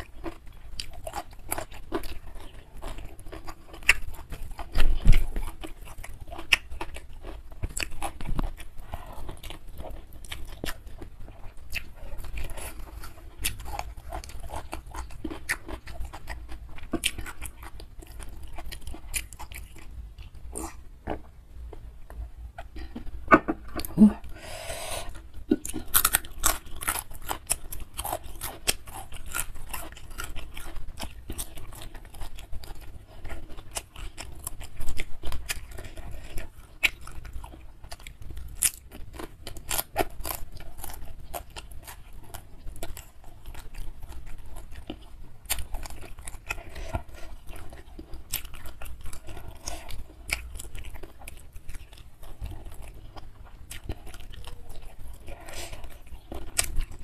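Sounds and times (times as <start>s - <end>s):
person chewing with mouth smacks: 0.0s - 57.0s.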